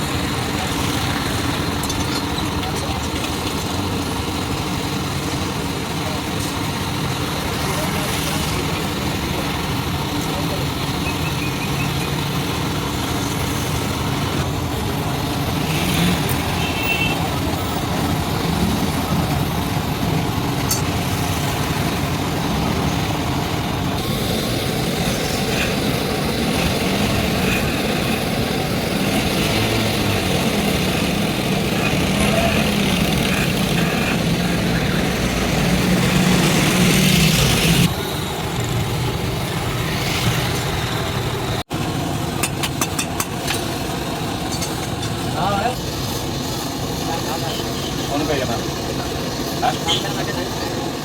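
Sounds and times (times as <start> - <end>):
motor vehicle engine running: 0.0 - 51.0
street noise: 0.0 - 51.0.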